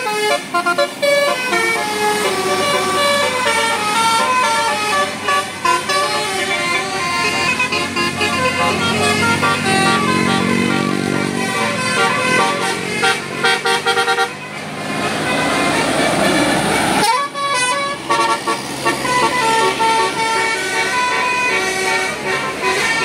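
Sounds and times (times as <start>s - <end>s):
multi-tone horn melody: 0.0s - 23.0s.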